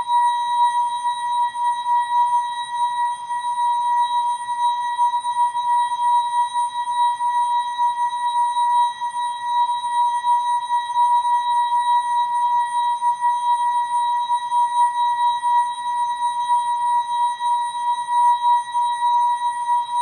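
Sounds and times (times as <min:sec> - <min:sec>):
long steady electronic tone: 0:00.0 - 0:20.0.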